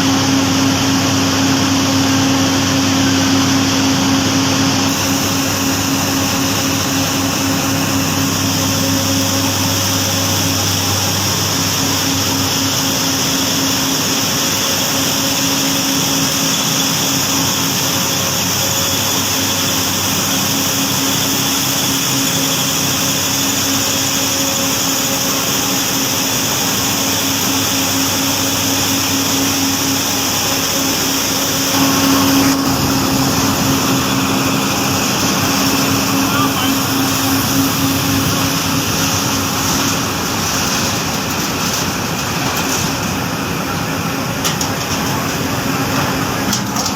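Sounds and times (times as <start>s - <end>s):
industrial machinery humming: 0.0s - 46.9s
hiss: 4.8s - 45.3s.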